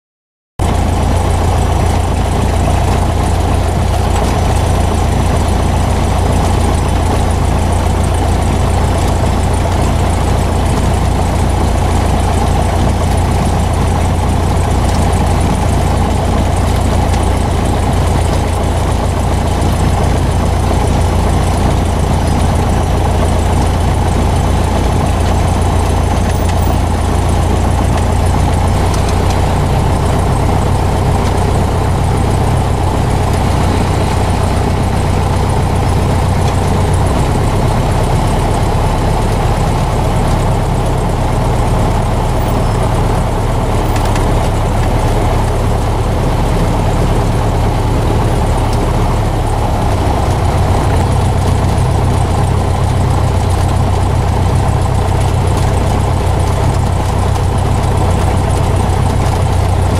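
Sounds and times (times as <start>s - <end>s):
light aircraft engine droning: 0.6s - 59.9s.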